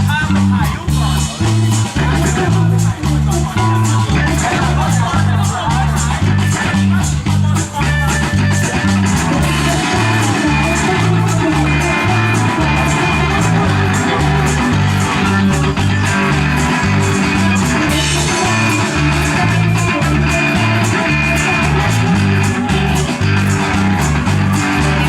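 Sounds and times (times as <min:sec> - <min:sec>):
bass line: 0:00.0 - 0:25.0
electric guitar: 0:00.0 - 0:25.0
high ticking beat: 0:00.0 - 0:25.0.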